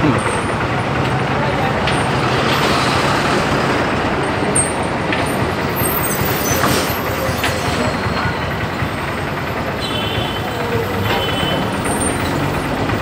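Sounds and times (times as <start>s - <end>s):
road traffic: 0.0s - 13.0s
vehicle engines running: 0.0s - 13.0s.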